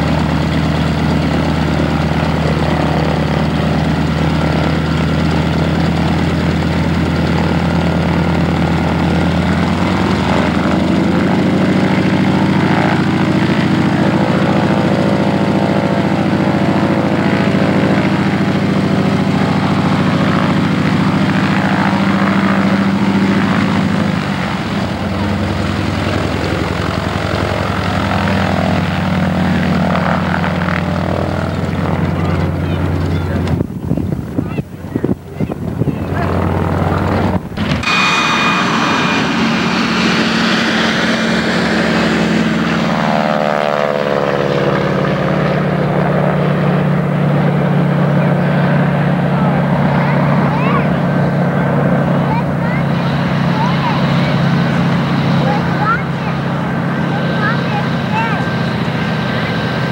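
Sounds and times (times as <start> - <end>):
radial aircraft engine running: 0.0 - 59.9.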